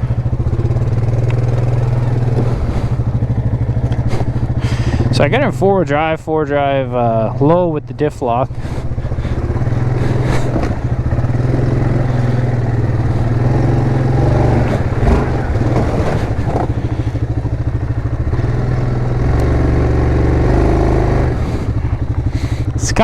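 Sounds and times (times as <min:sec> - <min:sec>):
engine running under load: 0:00.0 - 0:23.0.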